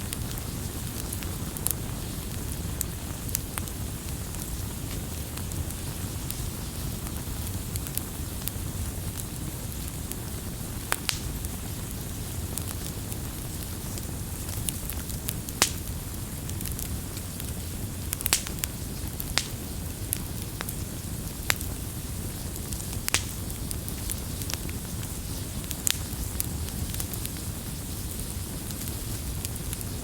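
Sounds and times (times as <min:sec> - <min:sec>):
low rumble of flames: 0:00.0 - 0:30.0
campfire pops and snaps: 0:00.1 - 0:30.0.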